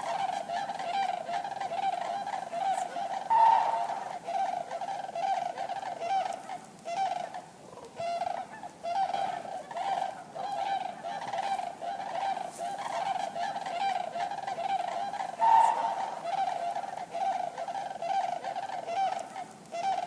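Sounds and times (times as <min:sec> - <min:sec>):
cranes honking calls: 0:00.0 - 0:20.0.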